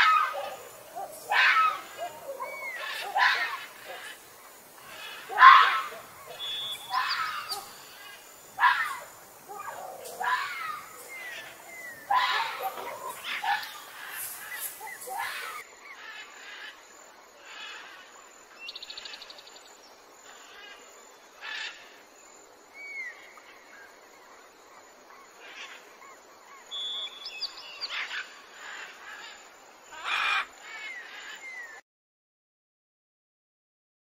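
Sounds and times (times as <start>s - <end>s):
small birds chirping: 0.0s - 20.8s, 22.3s - 31.8s.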